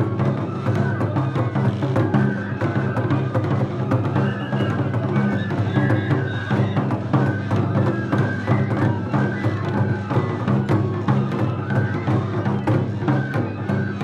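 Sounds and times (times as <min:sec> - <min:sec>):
bamboo flute phrases: 0:00.0 - 0:14.0
clacking percussion: 0:00.0 - 0:14.0
drums: 0:00.0 - 0:14.0.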